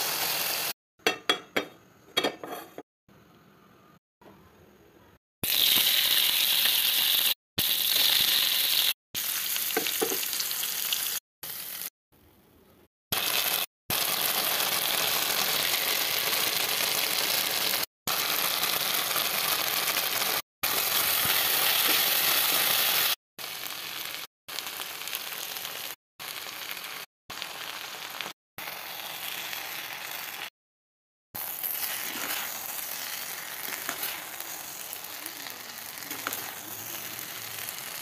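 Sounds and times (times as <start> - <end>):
food sizzling in oil: 0.0 - 1.5, 5.4 - 11.9, 13.1 - 30.5, 31.4 - 38.0.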